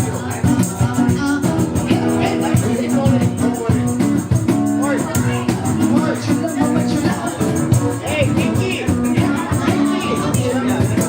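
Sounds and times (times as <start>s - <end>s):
live band music: 0.0s - 11.0s
quick high percussion beat: 0.0s - 11.0s.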